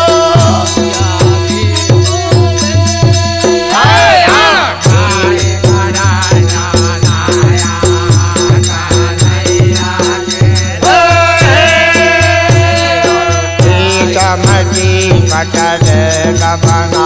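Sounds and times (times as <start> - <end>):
hand drum beat: 0.0 - 17.0
jingling percussion: 0.0 - 17.0.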